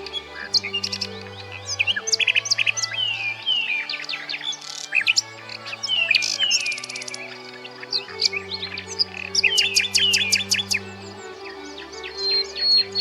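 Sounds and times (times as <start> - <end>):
low background music chords: 0.0 - 13.0
nightingale singing: 0.0 - 13.0.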